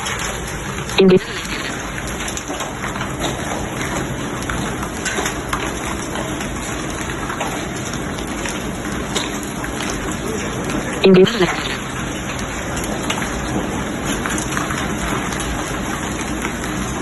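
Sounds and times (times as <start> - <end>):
hailstones pelting down: 0.0 - 17.0
rain: 0.0 - 17.0.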